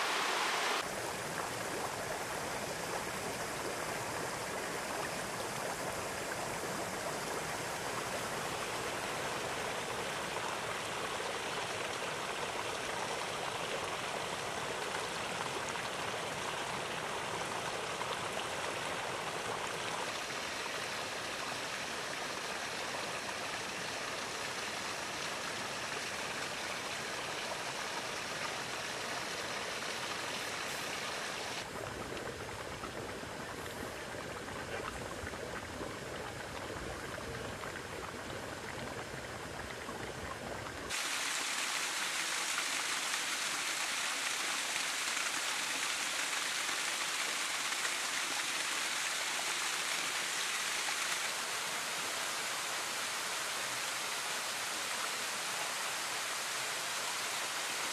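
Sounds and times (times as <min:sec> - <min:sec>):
hot spring water bubbling: 0:00.0 - 0:57.9.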